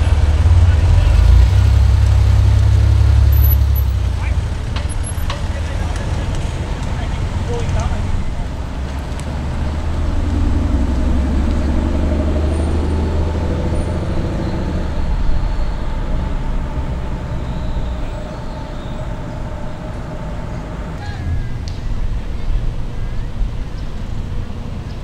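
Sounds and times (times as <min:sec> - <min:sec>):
car engine driving off: 0:00.0 - 0:25.0
street traffic: 0:00.0 - 0:25.0.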